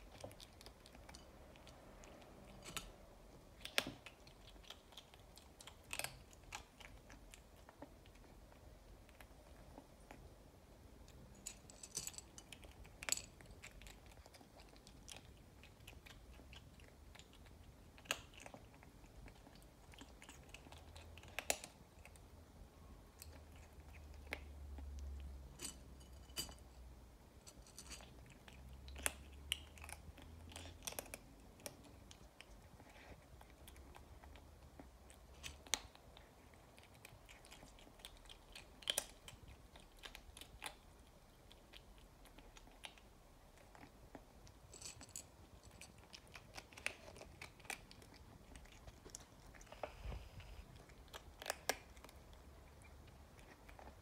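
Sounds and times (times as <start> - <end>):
kitten crunching dry kibble: 0.0 - 54.0.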